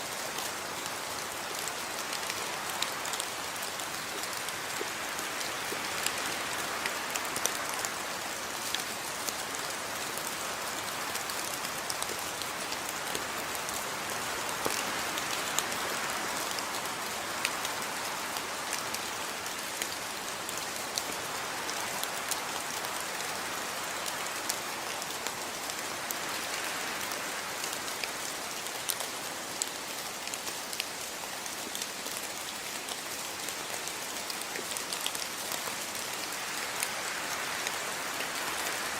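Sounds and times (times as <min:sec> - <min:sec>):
steady rain hiss: 0:00.0 - 0:38.9
raindrops ticking on a surface: 0:00.1 - 0:38.9.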